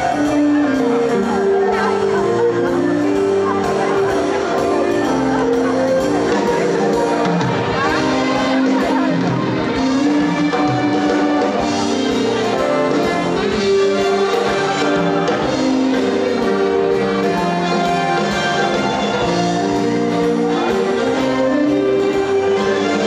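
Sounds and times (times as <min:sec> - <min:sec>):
upright bass: 0:00.0 - 0:23.0.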